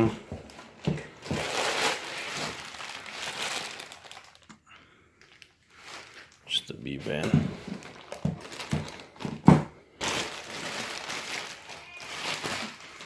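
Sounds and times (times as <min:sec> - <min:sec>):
packaging crinkling and rustling: 0:00.3 - 0:04.6, 0:05.2 - 0:13.0.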